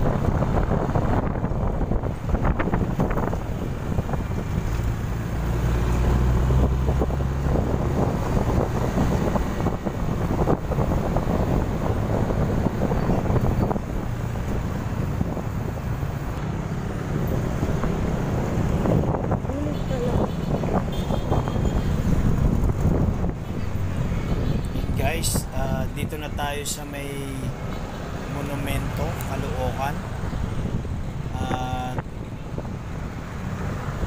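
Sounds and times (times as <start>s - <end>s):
wind buffeting microphone: 0.0s - 27.6s, 28.4s - 34.0s.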